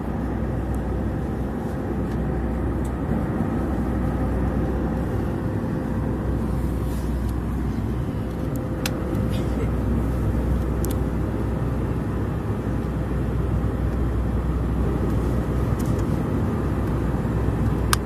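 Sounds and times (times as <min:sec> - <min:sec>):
airliner cabin engine drone: 0:00.0 - 0:18.0.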